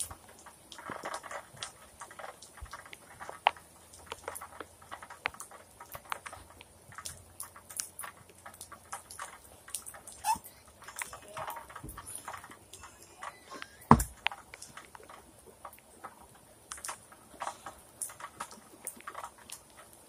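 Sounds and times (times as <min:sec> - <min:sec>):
rain dripping: 0:00.0 - 0:20.0.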